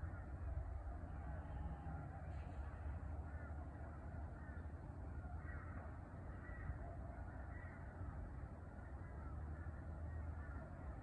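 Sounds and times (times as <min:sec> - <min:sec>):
faint bird calls: 0:00.0 - 0:11.0.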